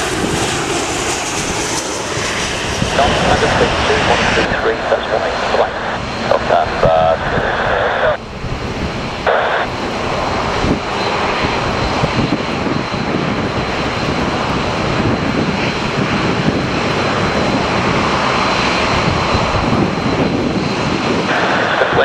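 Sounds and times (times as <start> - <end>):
wind buffeting microphone: 0.0 - 21.8
jet airliner noise: 0.0 - 22.0.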